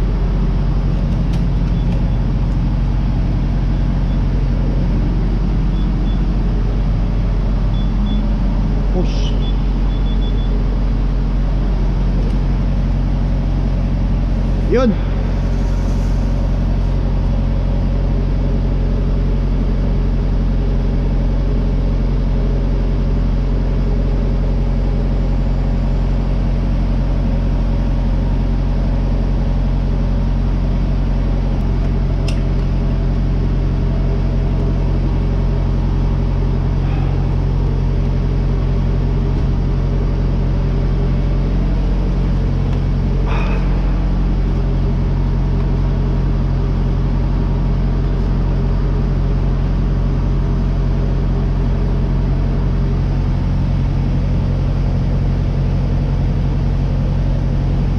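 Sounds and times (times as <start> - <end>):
low machine hum: 0.0 - 57.9.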